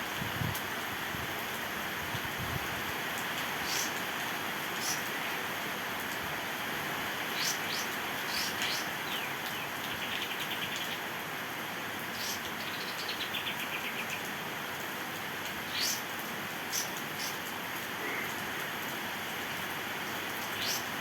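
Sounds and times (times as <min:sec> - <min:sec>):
rain hissing: 0:00.0 - 0:10.0, 0:11.0 - 0:21.0.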